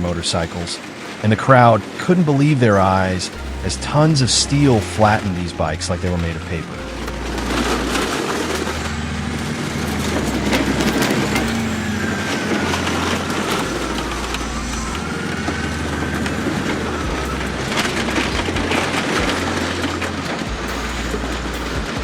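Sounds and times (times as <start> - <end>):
bulldozer diesel engine under load: 0.0 - 22.0
motorcycles crunching under bulldozer: 0.0 - 22.0.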